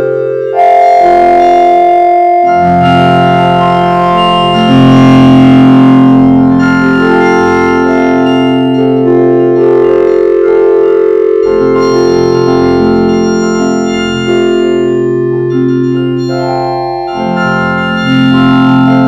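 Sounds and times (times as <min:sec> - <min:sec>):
vocoded synthesizer-like voice chords: 0:00.0 - 0:19.0.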